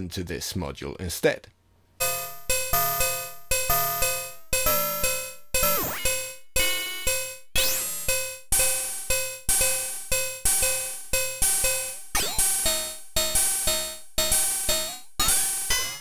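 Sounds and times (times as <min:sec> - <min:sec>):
electronic metallic percussion hits: 0:02.0 - 0:16.0.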